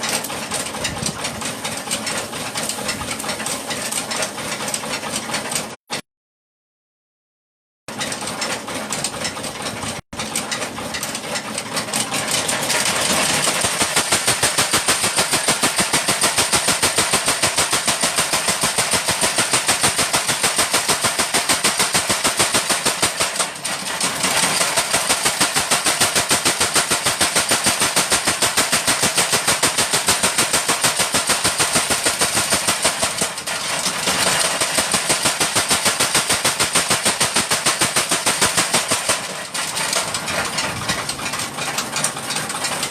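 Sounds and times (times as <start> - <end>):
power hammer pounding hot steel: 7.9 - 42.9.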